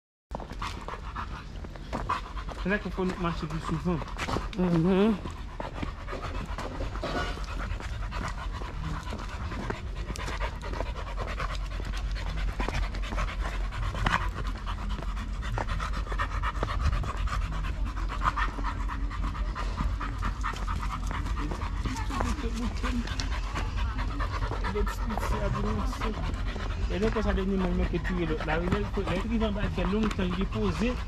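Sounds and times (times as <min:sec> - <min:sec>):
dog panting: 0:00.4 - 0:31.0.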